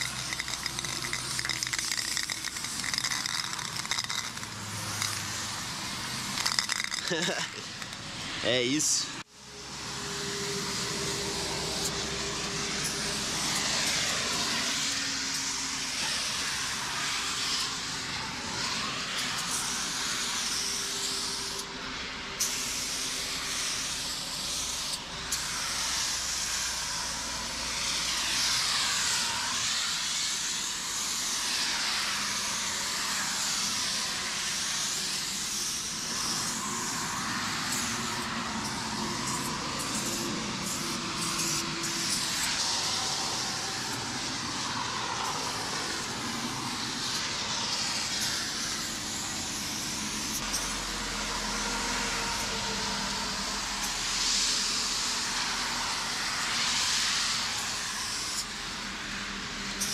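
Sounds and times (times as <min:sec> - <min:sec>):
spray paint can hissing: 0:00.0 - 0:08.2, 0:12.8 - 0:21.8, 0:22.4 - 0:59.9.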